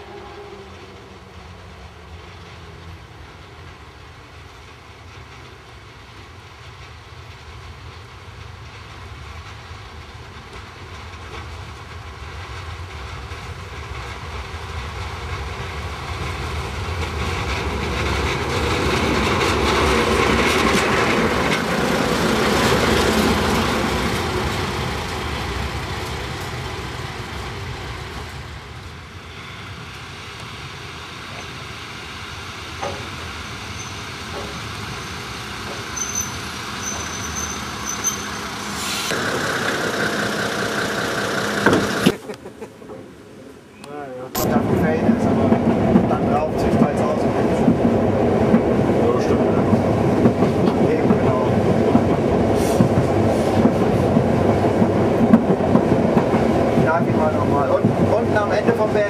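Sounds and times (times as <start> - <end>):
diesel railcar passing: 0.0 - 59.0.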